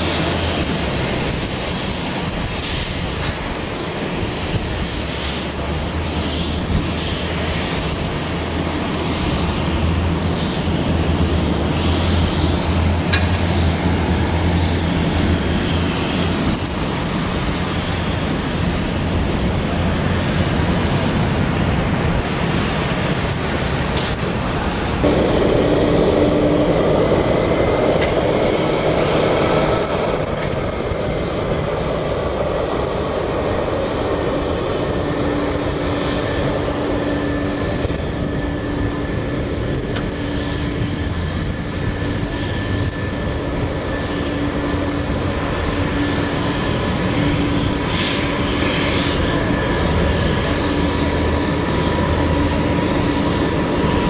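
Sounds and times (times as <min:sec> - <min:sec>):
jet engines whining while taxiing: 0:00.0 - 0:54.0
jet landing with engine rumble: 0:00.0 - 0:54.0.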